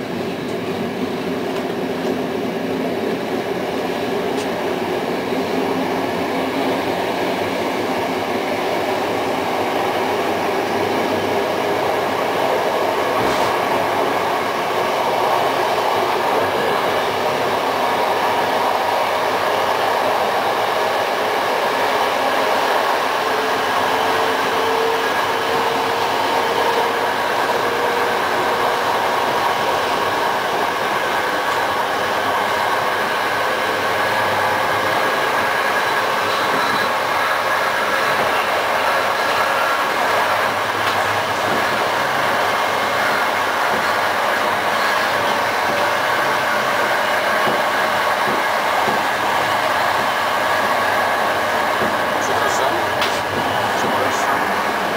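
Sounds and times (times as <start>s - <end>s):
train wheels on rail: 0.0s - 54.9s.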